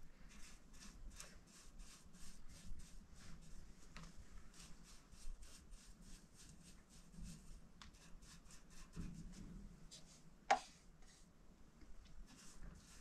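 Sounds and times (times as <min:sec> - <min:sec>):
paintbrush swishing on wood: 0:00.3 - 0:11.3, 0:12.2 - 0:13.0.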